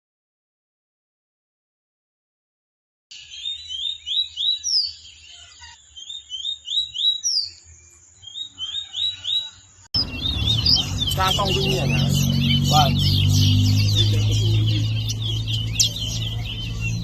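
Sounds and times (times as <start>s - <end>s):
songbird singing chirping notes: 3.1s - 17.0s.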